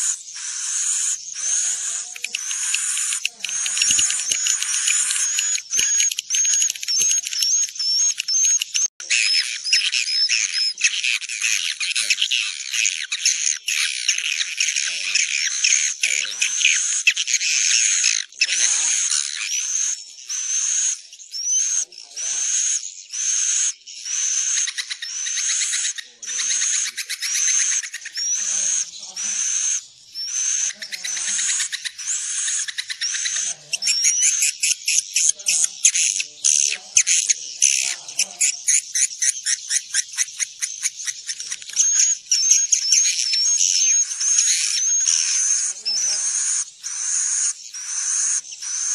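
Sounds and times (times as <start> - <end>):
buzzy bird chirps: 0.0 - 48.9.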